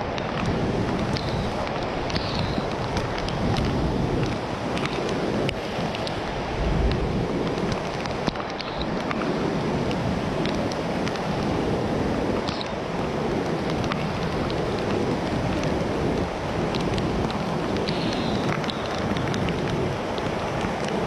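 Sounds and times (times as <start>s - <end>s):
rain: 0.0s - 21.0s
wind: 0.0s - 21.0s.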